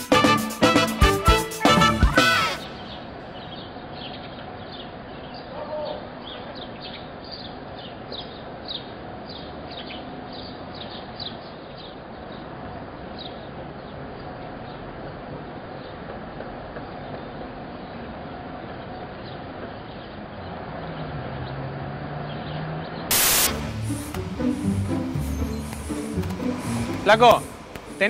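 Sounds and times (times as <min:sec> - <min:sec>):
street ambience hum: 0:00.0 - 0:28.0
small birds chirping: 0:02.6 - 0:28.0.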